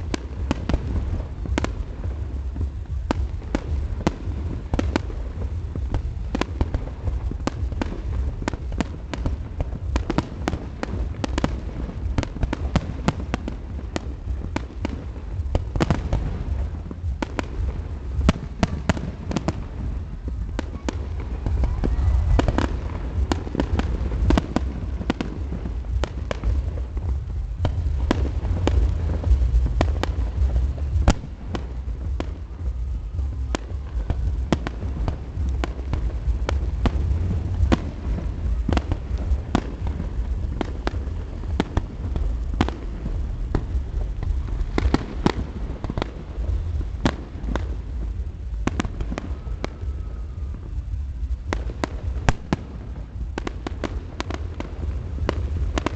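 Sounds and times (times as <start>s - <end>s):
fireworks bangs and crackles: 0.0s - 55.9s
low rumble: 0.0s - 55.9s.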